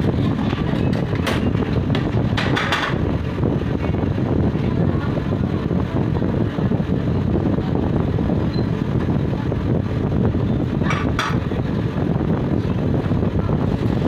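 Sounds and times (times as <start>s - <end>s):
busy kitchen roar: 0.0s - 14.0s.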